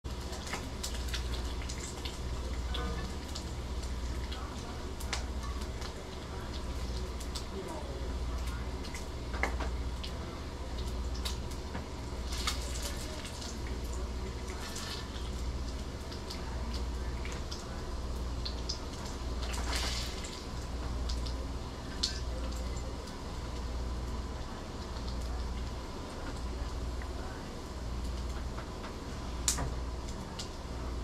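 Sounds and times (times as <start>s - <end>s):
fat crackling and popping: 0.0s - 27.3s
bacon sizzling in a frying pan: 0.1s - 31.0s.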